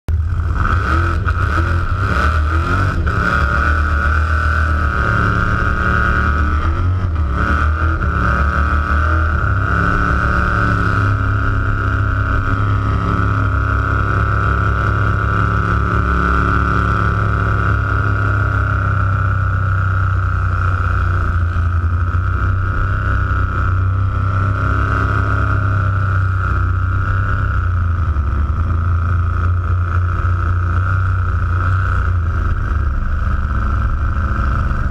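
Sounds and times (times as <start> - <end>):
engine at high revs: 0.1 - 34.9.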